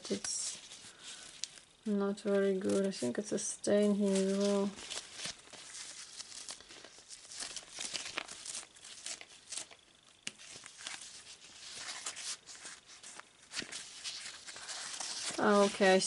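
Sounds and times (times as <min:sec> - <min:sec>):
fabric rustling: 0:00.0 - 0:16.0.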